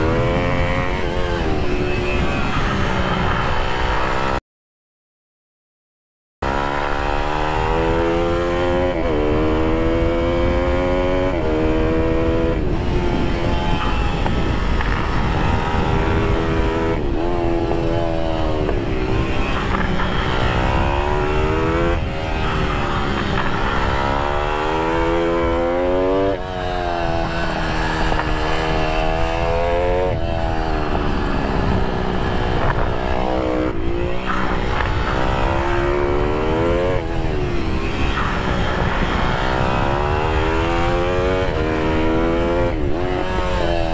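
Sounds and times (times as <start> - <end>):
motorbike engine revving through gears: 6.4 - 43.9.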